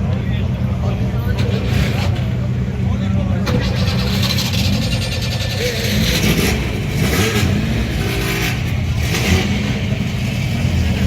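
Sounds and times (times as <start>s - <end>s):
race car engines running: 0.0s - 11.0s.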